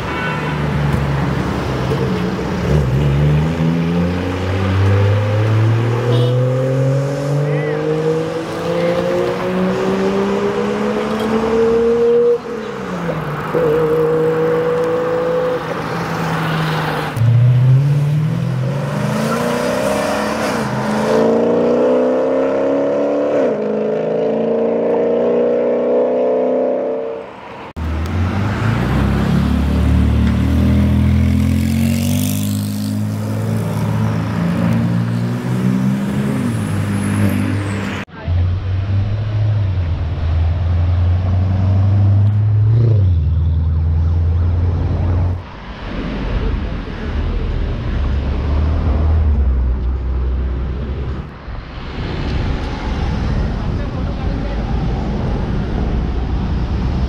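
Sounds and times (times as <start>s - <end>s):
engines revving and accelerating: 0.9s - 57.0s.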